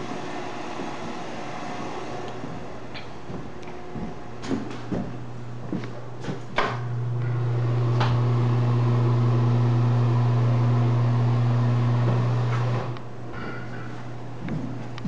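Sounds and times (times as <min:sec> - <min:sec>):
hvac equipment humming: 0:00.0 - 0:15.0.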